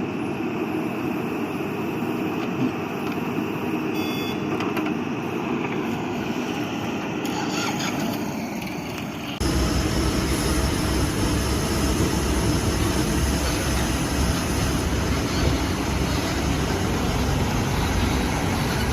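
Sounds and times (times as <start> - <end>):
backhoe engine running: 0.0 - 18.9.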